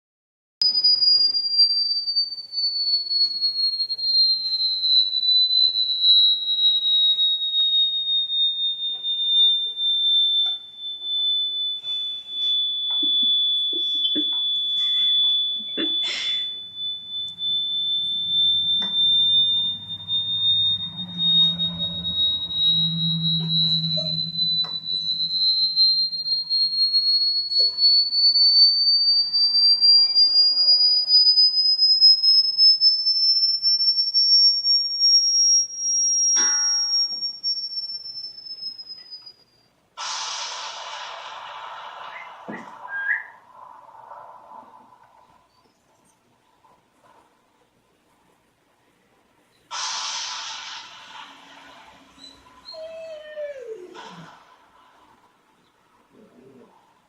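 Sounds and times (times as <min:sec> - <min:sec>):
high-pitched whistle tone: 0:00.6 - 0:45.8, 0:49.7 - 0:54.4.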